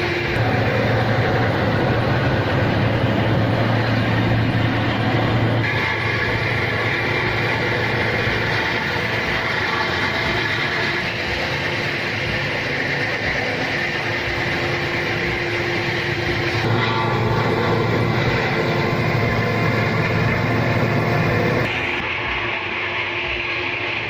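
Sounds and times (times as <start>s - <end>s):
heavy machinery running: 0.0s - 24.0s.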